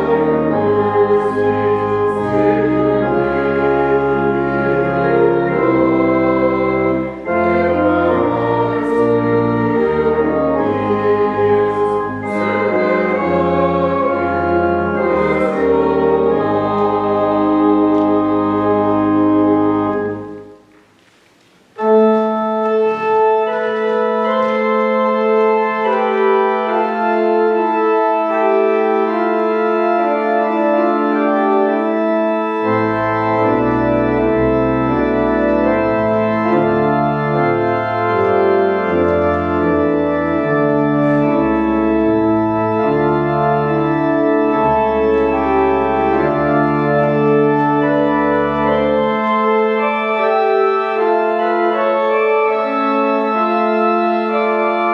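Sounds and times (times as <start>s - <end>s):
deep organ pedal bass notes: 0.0s - 20.8s, 21.4s - 54.9s
organ playing: 0.0s - 54.9s.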